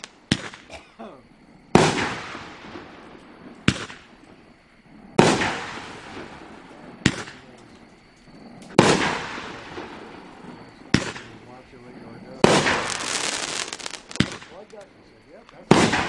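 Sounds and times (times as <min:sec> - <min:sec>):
firework bangs echoing: 0:00.0 - 0:00.8, 0:01.7 - 0:16.0.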